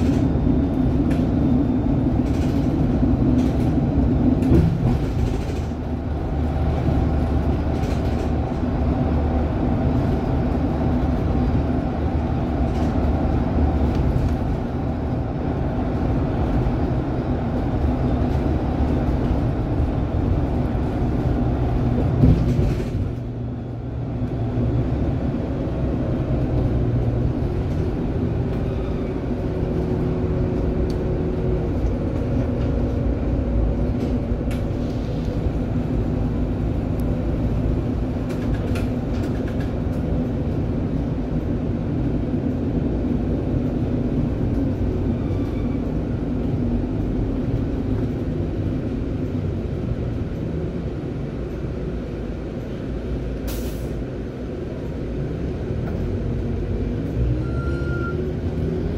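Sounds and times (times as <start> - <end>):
bus engine drone and road noise: 0.0 - 58.9.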